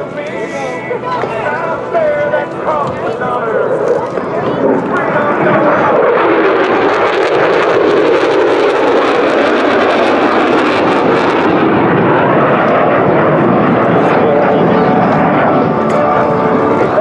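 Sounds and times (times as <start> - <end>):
jet roar flying past: 0.0 - 17.0.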